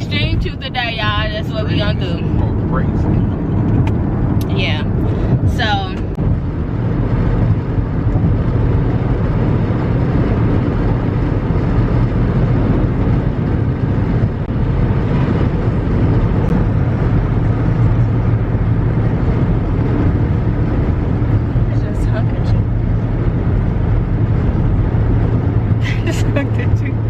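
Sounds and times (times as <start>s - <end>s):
car engine rumble: 0.0s - 27.0s.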